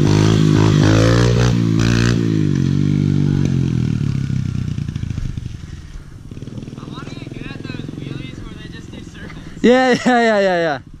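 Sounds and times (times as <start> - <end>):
small motorbike engine revving: 0.0 - 10.1.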